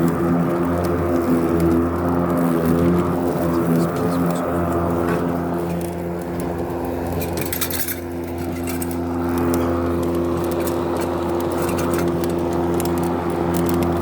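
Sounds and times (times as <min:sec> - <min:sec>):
electric lawn mower cutting grass: 0:00.0 - 0:14.0.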